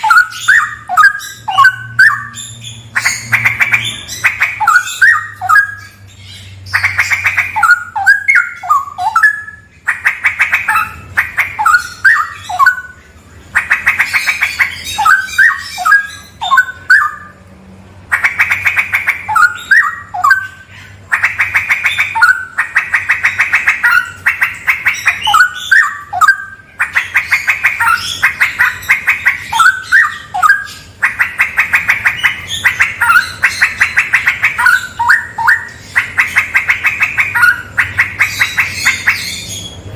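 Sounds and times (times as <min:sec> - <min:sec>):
bird singing rattling and whistling: 0:00.0 - 0:17.4, 0:18.1 - 0:39.9.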